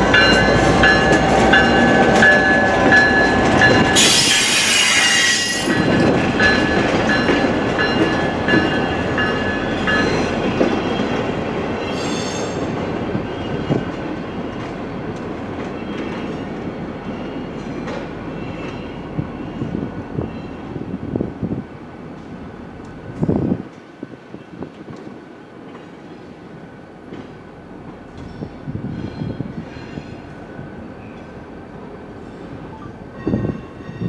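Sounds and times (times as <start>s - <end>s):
train wheels clattering on rails: 0.0s - 20.3s, 22.8s - 31.4s.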